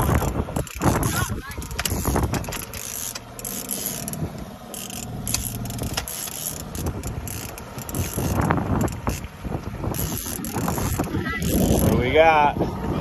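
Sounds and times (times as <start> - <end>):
wind buffeting microphone: 0.0 - 4.7, 5.3 - 13.0
fishing reel clicking: 0.0 - 9.3, 9.9 - 12.1
outboard motor humming: 0.0 - 13.0.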